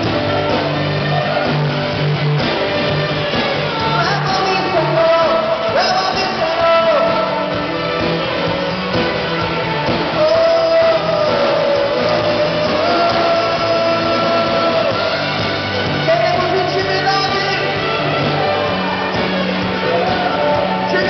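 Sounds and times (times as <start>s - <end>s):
worship band playing: 0.0s - 21.0s.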